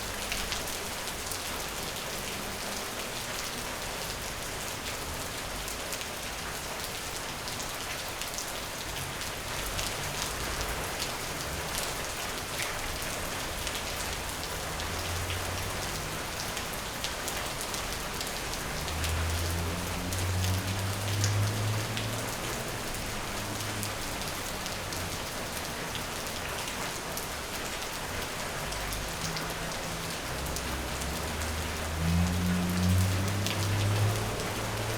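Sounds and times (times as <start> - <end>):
rain on a hard surface: 0.0 - 34.9.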